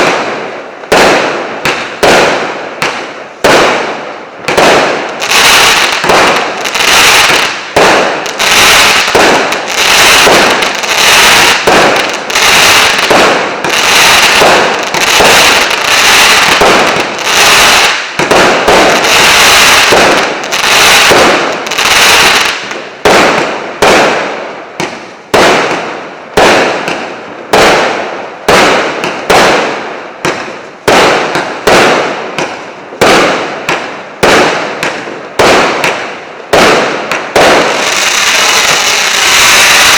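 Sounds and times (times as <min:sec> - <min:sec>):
fireworks shots and bursts: 0:00.0 - 0:39.9.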